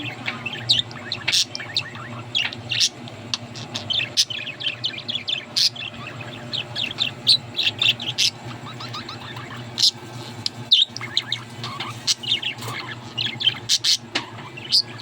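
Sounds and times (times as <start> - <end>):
budgerigars chirping: 0.0 - 15.0
low steady hum: 0.0 - 15.0.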